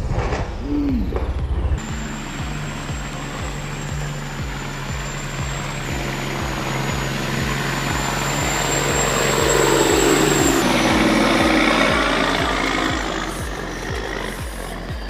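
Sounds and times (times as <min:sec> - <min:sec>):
heavy vehicle engine running: 0:00.0 - 0:15.0
high whine: 0:00.0 - 0:15.0
music with thumping beat: 0:01.2 - 0:15.0.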